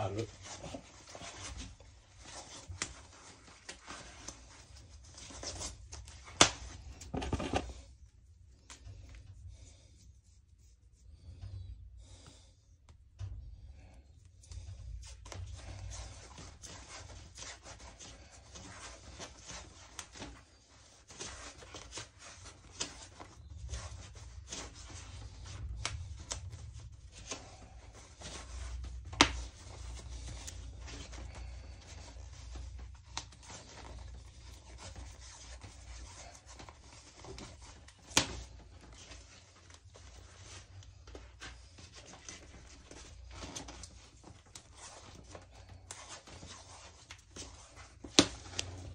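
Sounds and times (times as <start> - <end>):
tape crackling rub: 0.0 - 7.9, 14.5 - 48.9.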